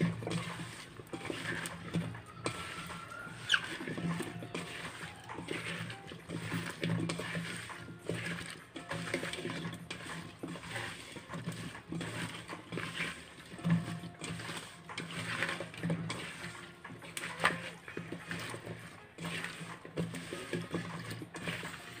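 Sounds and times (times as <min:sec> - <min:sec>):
hand squelching batter in bowl: 0:00.0 - 0:22.0.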